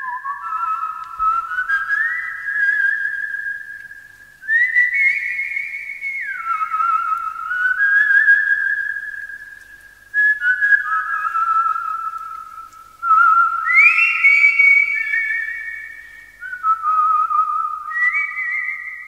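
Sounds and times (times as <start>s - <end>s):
person whistling a melody: 0.0s - 9.6s, 10.2s - 19.0s.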